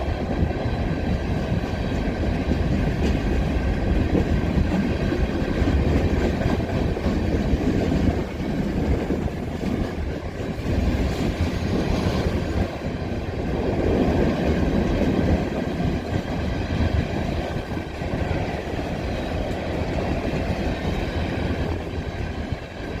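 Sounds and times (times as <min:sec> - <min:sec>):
train cars rumbling past: 0:00.0 - 0:23.0.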